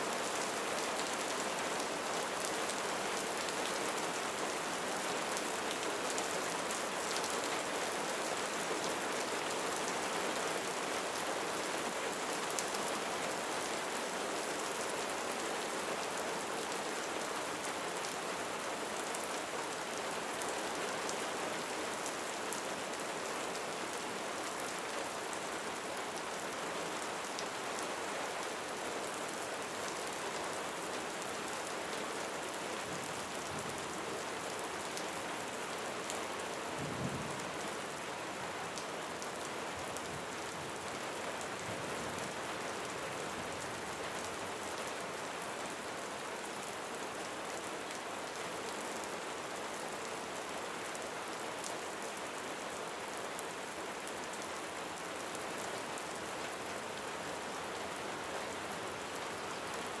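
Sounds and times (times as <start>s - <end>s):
rain falling on a roof: 0.0s - 60.0s.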